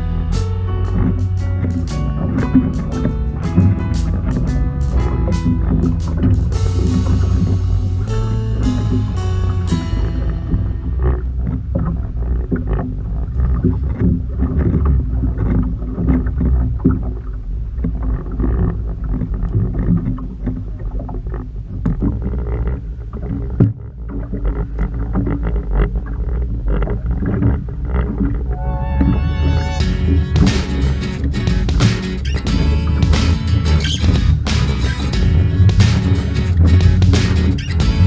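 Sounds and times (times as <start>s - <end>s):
boat low rumble: 0.0s - 38.0s.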